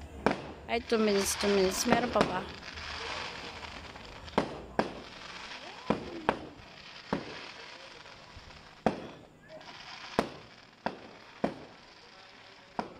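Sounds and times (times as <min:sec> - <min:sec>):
fireworks bursting: 0:00.0 - 0:12.9.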